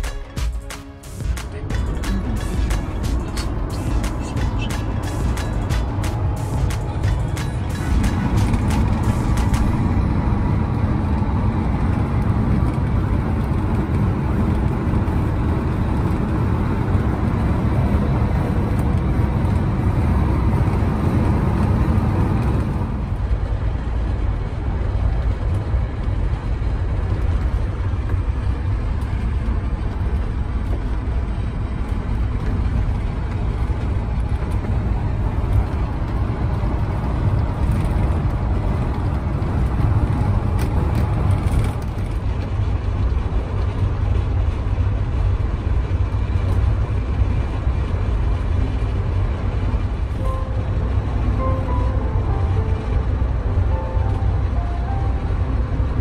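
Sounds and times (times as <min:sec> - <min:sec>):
engine and tyres rumbling on road: 0:00.0 - 0:56.0.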